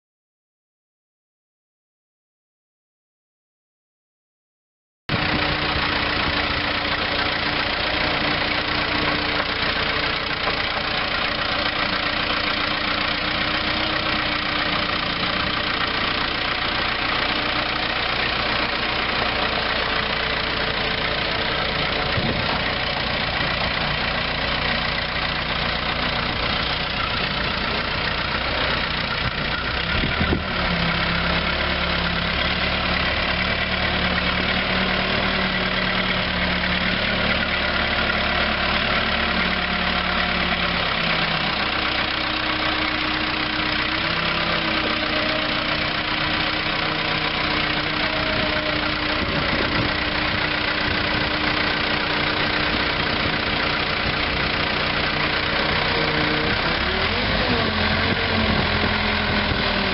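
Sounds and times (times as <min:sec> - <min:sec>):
diesel engine idling: 0:05.1 - 0:59.9.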